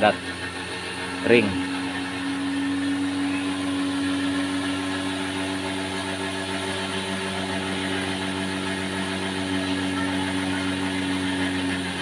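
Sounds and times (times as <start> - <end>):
cotton candy machine humming: 0.0 - 12.0.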